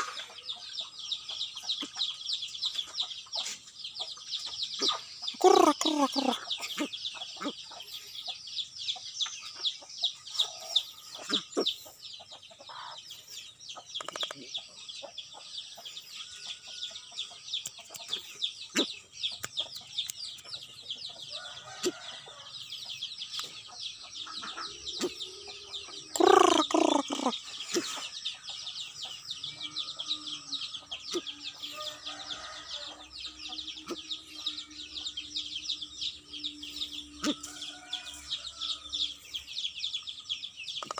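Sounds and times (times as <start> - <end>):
birds calling: 0.0 - 40.9.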